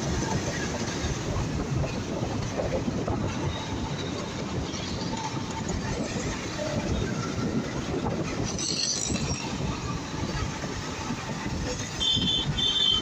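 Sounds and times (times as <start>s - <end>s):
motorcycle wind and road noise: 0.0s - 13.0s.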